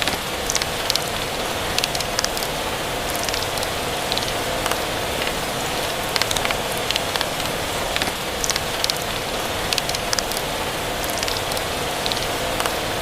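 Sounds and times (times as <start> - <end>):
wood fire crackling: 0.0 - 12.4
rain hiss: 0.0 - 13.0.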